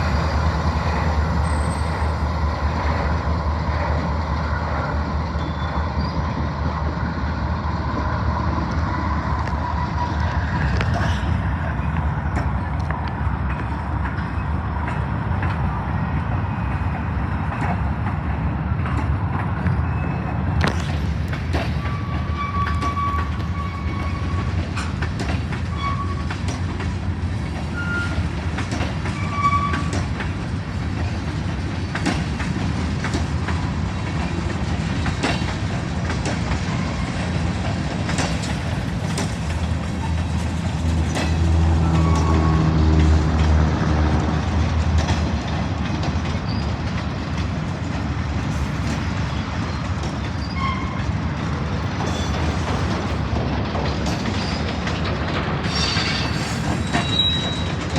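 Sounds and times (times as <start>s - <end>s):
train rumbling on track: 0.0s - 57.9s.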